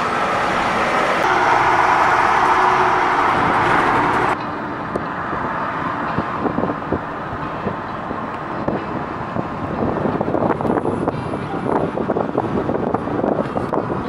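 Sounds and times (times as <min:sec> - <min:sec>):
car road noise: 0:00.0 - 0:14.0
jet engine roar overhead: 0:00.0 - 0:14.0.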